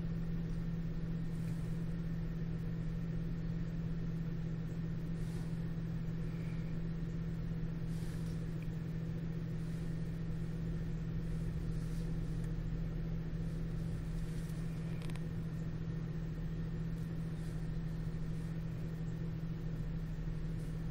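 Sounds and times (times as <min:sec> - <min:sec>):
low hum: 0:00.0 - 0:20.9.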